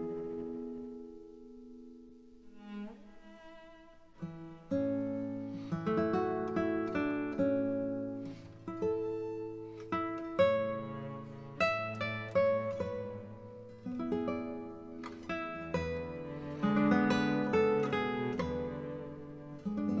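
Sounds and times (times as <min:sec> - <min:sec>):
plucked string instrument music: 0:00.0 - 0:20.0.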